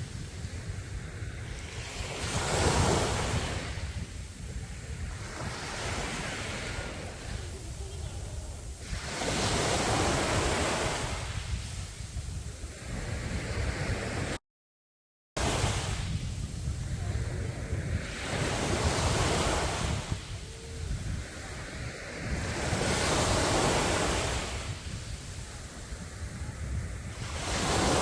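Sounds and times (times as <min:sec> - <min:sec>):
sea waves breaking on a beach: 0:00.0 - 0:14.4, 0:15.4 - 0:28.0
wind rumble on the microphone: 0:00.0 - 0:14.4, 0:15.4 - 0:28.0.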